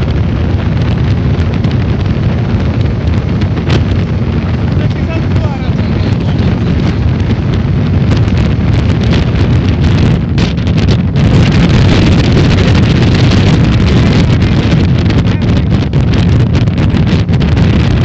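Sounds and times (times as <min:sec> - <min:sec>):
speedboat engine: 0:00.0 - 0:18.0
wind buffeting microphone: 0:00.0 - 0:18.0.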